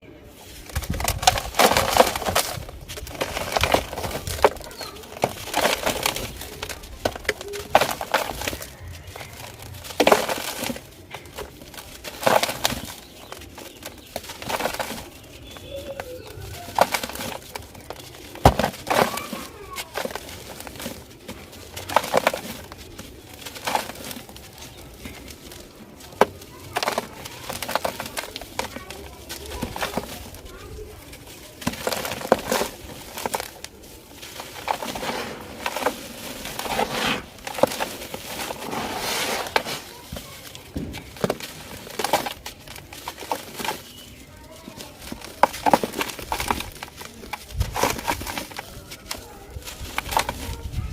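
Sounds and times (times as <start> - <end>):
dry material crunching: 0.0 - 50.9.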